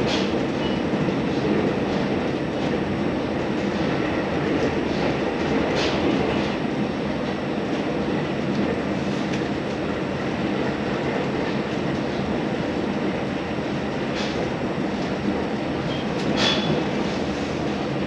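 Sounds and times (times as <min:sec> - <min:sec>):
railcar engine and wheels rumbling: 0:00.0 - 0:18.0.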